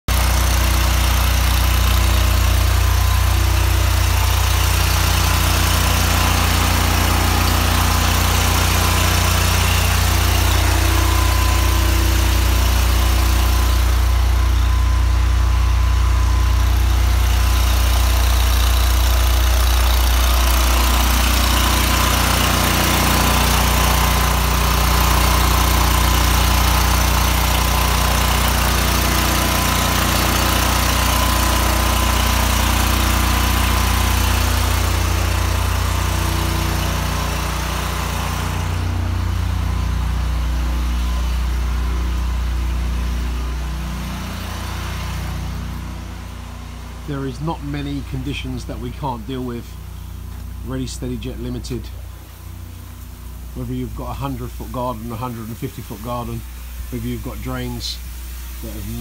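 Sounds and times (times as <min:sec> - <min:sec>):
petrol engine droning: 0:00.1 - 0:59.0.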